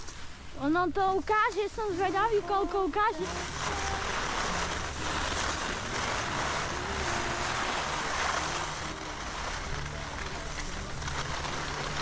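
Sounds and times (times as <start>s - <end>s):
skis scraping over snow: 0.0s - 12.0s.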